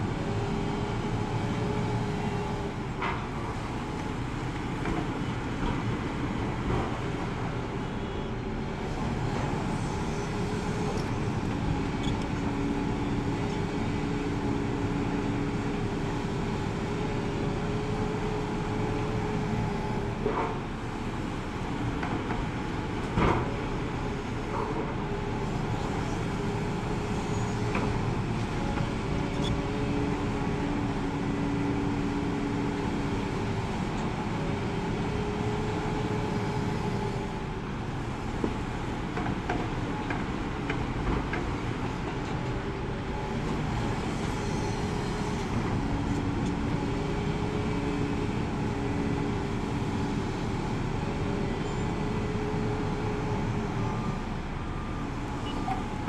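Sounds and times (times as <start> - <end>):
excavator diesel rumble: 0.0 - 56.0.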